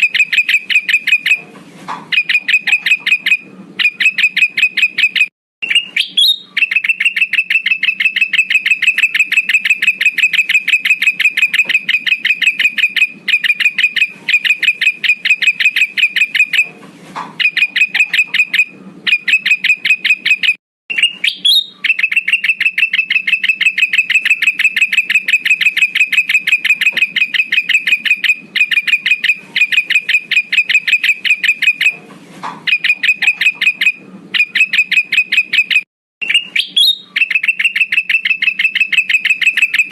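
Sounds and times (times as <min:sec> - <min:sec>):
bird rapid chirps: 0:00.0 - 0:01.4, 0:02.1 - 0:16.7, 0:17.4 - 0:32.0, 0:32.6 - 0:39.9.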